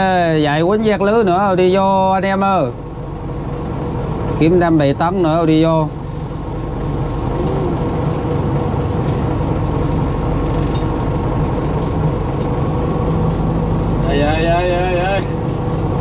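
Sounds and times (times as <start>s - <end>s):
diesel boat engine running: 0.0s - 16.0s.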